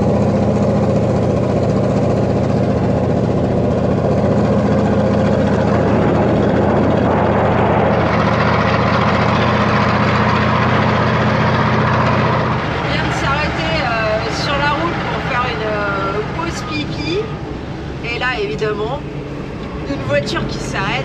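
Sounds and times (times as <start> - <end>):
diesel truck engine droning: 0.0 - 21.0
road and tyre noise: 0.0 - 21.0.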